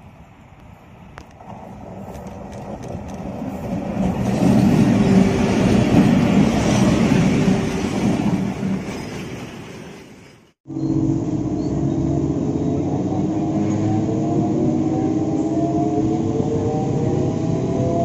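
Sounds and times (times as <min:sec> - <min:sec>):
electric locomotive hum: 0:00.0 - 0:18.0
train wheels rumbling on rails: 0:00.6 - 0:18.0.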